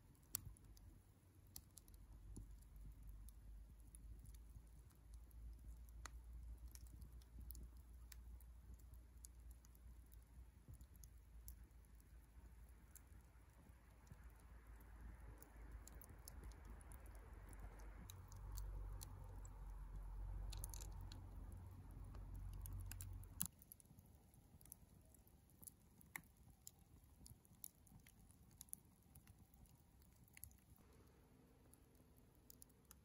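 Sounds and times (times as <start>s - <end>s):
wood fire crackling and popping: 0.0s - 30.8s, 31.7s - 33.0s.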